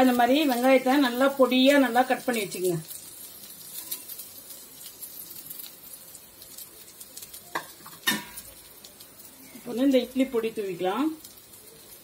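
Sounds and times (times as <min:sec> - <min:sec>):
batter and oil sizzling on griddle: 0:00.0 - 0:12.0.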